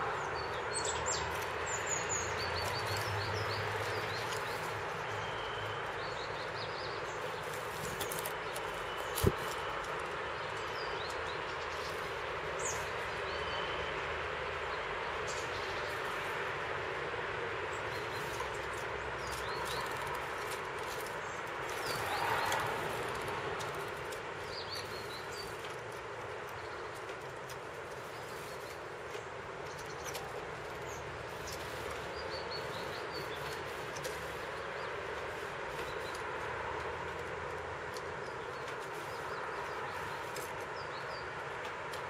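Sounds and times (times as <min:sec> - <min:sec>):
songbirds high chirps: 0:00.0 - 0:42.0.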